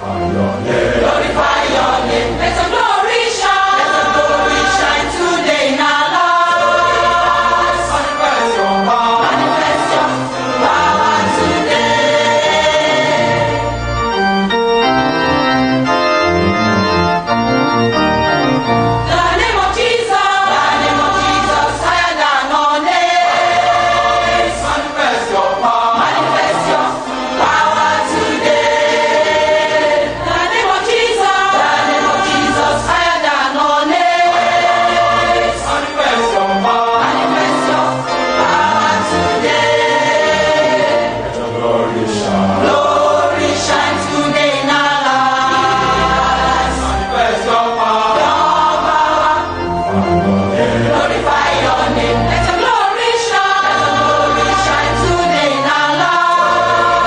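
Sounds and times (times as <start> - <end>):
choir singing gospel music: 0.0 - 57.0
instrumental backing: 0.0 - 57.0.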